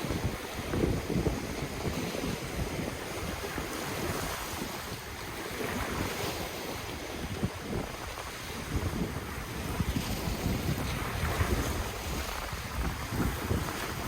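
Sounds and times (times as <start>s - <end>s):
ocean waves on shore: 0.0s - 14.0s
wind buffeting microphone: 0.0s - 14.0s.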